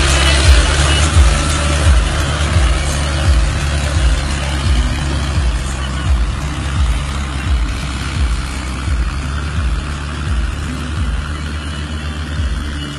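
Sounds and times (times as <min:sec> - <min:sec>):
low rumble: 0:00.0 - 0:12.8
tractor diesel engine under load: 0:00.0 - 0:12.9.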